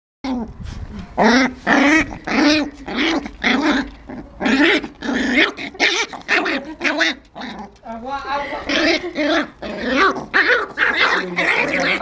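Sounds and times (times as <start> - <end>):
puppy growling: 0.2 - 12.0.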